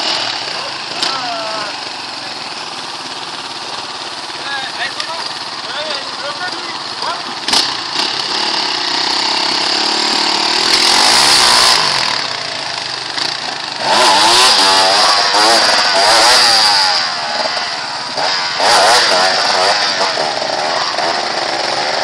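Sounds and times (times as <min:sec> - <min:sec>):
motocross engines revving: 0:00.0 - 0:22.0.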